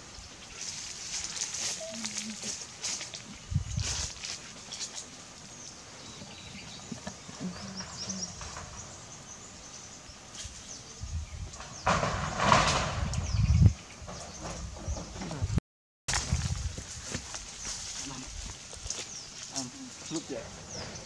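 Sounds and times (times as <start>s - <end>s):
outdoor background: 0.0s - 21.0s.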